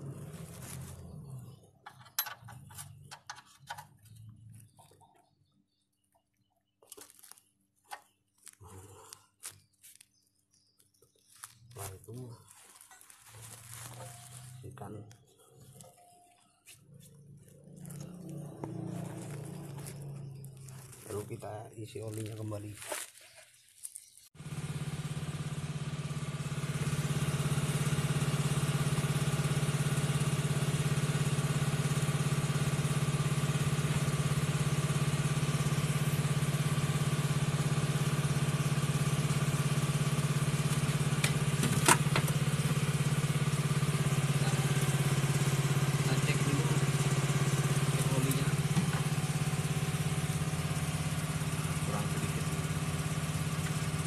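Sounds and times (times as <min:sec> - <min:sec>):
engine idling: 0:00.0 - 0:04.9, 0:11.8 - 0:16.3, 0:17.0 - 0:22.2, 0:24.4 - 0:54.0.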